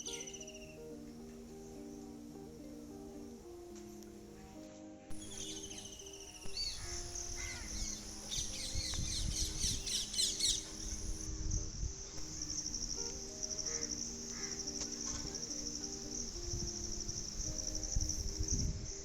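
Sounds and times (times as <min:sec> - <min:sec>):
insect trill: 0:00.0 - 0:19.0
small birds chirping: 0:00.0 - 0:19.0
soft background music: 0:00.0 - 0:19.0.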